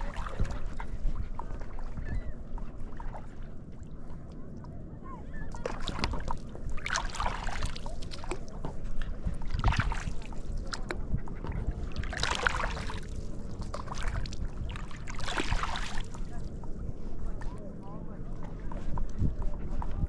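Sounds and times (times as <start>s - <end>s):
paddle strokes swishing in water: 0.0s - 20.0s
steady low rumble: 0.0s - 20.0s.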